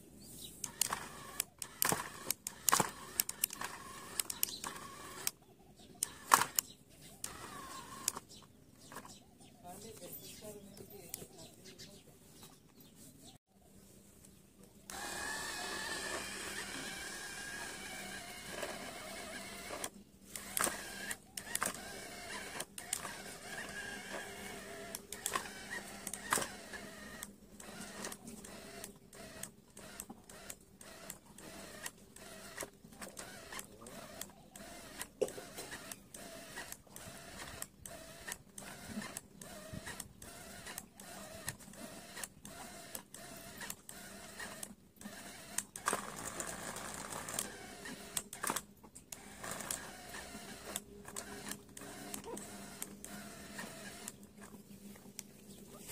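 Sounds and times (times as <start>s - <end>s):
small electric motor whining: 0.4s - 9.2s, 14.8s - 55.9s.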